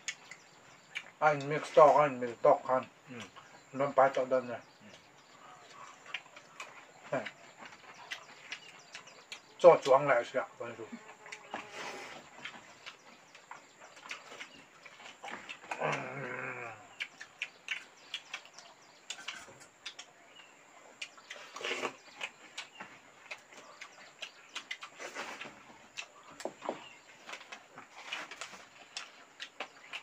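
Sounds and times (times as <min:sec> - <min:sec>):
mouth clicks and chewing smacks: 0:00.0 - 0:01.6, 0:04.8 - 0:10.0, 0:11.2 - 0:16.2, 0:16.9 - 0:30.0.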